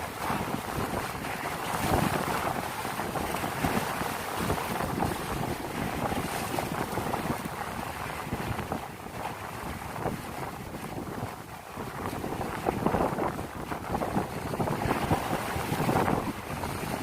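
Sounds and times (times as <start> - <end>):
waves sloshing and splashing: 0.0 - 17.0
wind buffeting microphone: 0.0 - 17.0.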